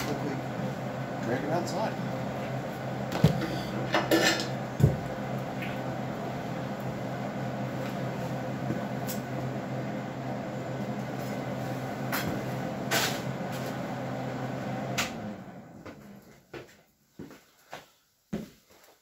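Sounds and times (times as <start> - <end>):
steady hum: 0.0 - 16.4.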